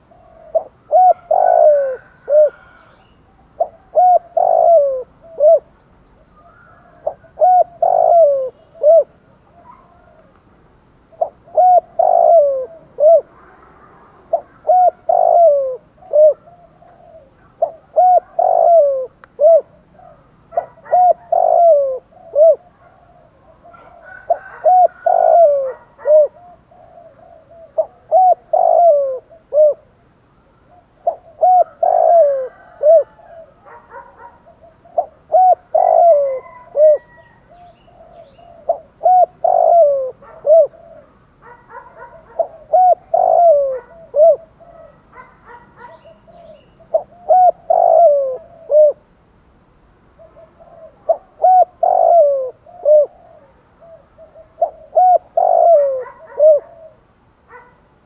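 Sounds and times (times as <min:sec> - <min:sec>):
dove cooing: 0:00.0 - 0:10.3, 0:11.0 - 0:30.0, 0:30.6 - 0:49.1, 0:50.1 - 0:57.8.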